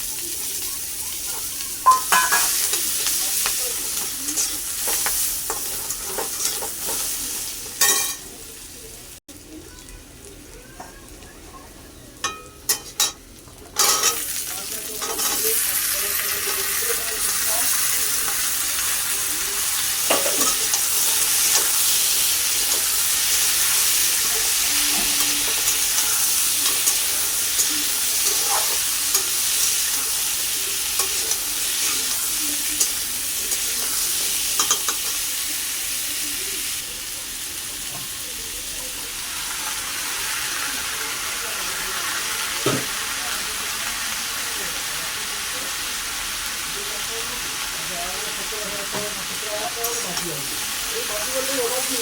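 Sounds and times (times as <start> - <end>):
food sizzling in a pan: 0.0 - 52.0.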